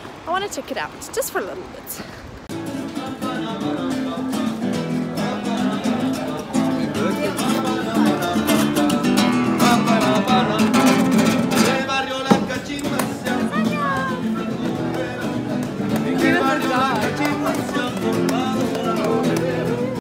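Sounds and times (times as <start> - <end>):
passers-by voices: 0.0 - 20.0
acoustic guitar music: 2.5 - 20.0.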